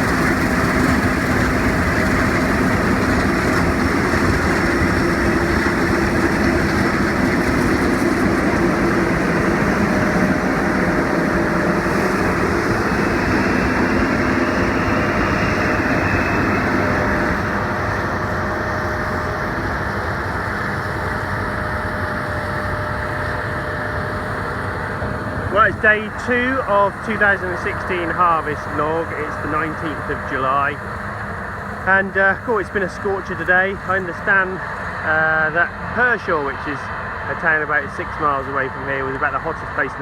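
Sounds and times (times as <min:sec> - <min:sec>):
combine harvester running: 0:00.0 - 0:40.0
faint steady whine: 0:00.0 - 0:40.0.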